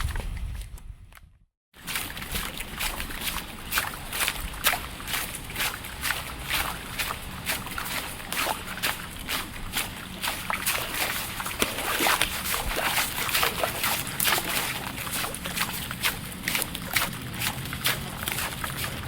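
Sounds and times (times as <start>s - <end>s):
footsteps on wet road: 1.8s - 19.0s.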